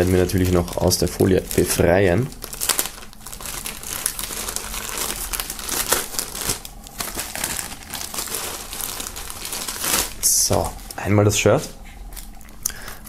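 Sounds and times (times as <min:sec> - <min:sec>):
plastic film crinkling: 0:00.0 - 0:11.1.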